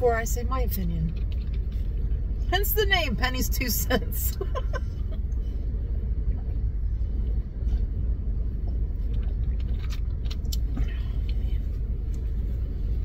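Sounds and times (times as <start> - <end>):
car idling: 0.0 - 13.0.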